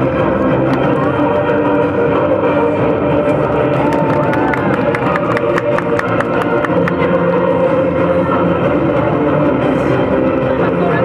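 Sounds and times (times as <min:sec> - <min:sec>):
loud backing music: 0:00.0 - 0:11.0.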